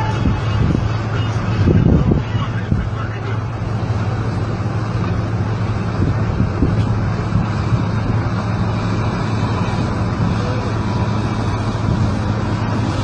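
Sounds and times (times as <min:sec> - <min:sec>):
heavy machine engine droning: 0:00.0 - 0:13.0.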